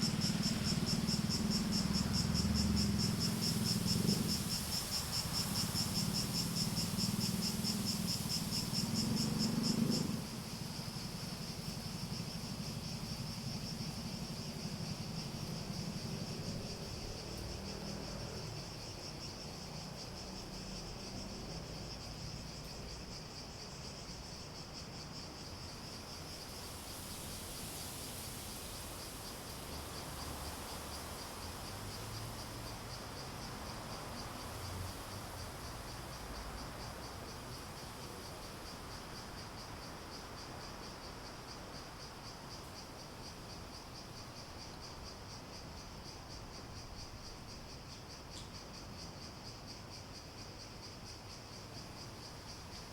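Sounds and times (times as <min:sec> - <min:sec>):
cicadas pulsing drone: 0:00.0 - 0:52.9
higher hissing insect chorus: 0:00.0 - 0:52.9.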